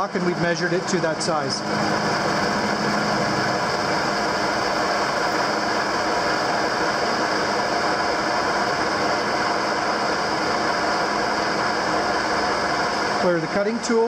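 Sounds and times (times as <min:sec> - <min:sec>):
metal lathe whirring: 0:00.0 - 0:14.0.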